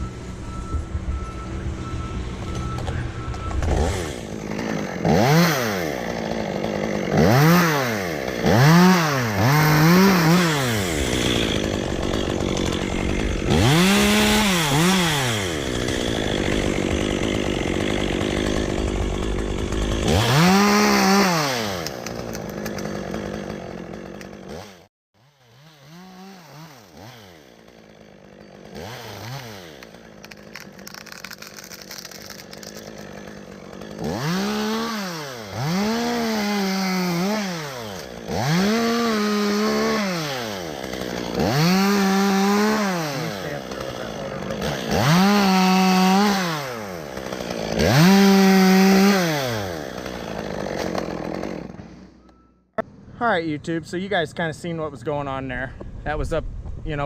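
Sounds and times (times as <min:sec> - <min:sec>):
chainsaw revving: 0:03.4 - 0:52.3.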